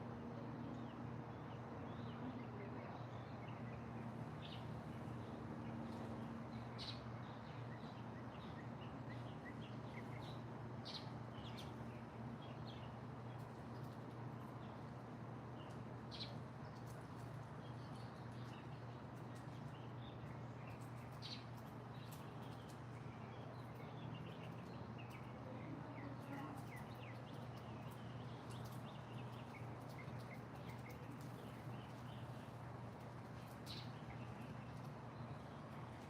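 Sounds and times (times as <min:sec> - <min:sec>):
small birds chirping: 0:00.4 - 0:36.0.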